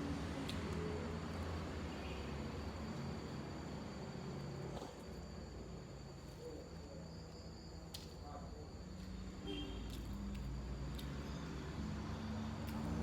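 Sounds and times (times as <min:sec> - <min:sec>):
insects chirring: 0:01.1 - 0:13.0.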